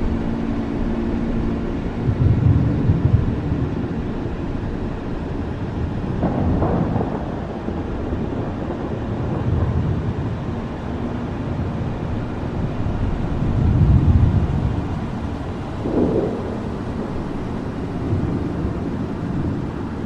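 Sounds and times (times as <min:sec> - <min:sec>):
rain falling: 0:00.0 - 0:20.0
thunder rumbling: 0:00.0 - 0:20.0.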